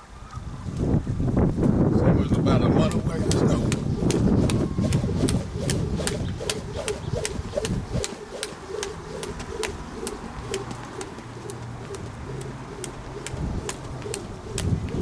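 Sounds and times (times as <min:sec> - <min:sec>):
jump rope ticking on dirt: 0:02.9 - 0:15.0.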